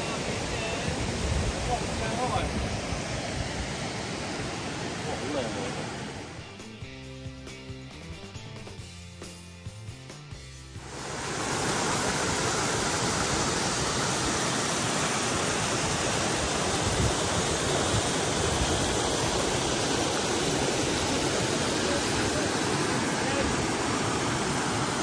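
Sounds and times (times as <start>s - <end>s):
water cascading over rocks: 0.0s - 6.4s, 10.8s - 25.0s.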